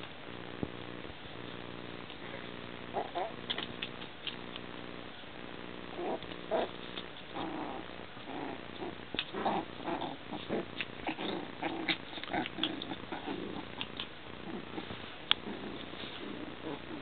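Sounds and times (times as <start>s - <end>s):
puppies growling: 1.5s - 17.0s.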